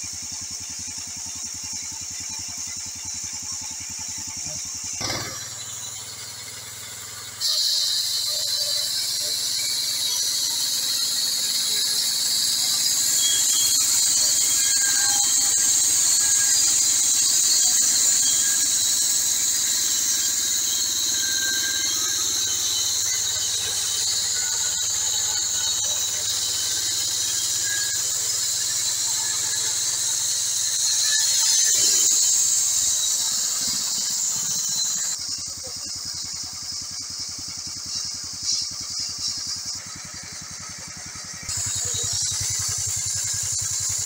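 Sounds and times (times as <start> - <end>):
machine running: 0.0 - 44.0
saw blade squealing whine: 0.0 - 44.0.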